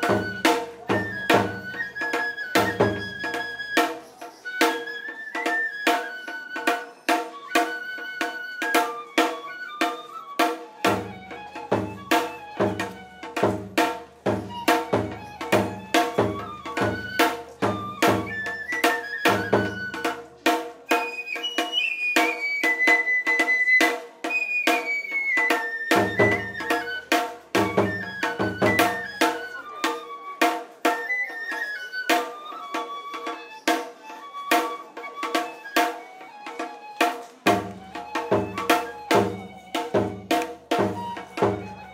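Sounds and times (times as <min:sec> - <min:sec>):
bamboo flute melody: 0:00.0 - 0:41.9.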